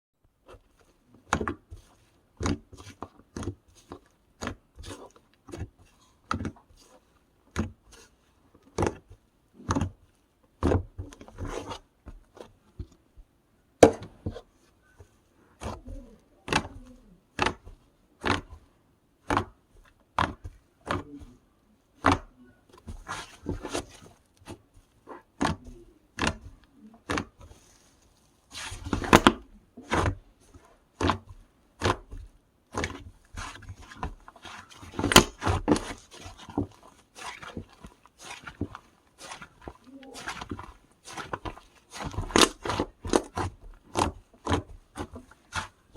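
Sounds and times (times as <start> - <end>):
slime squelching: 0.3 - 45.9.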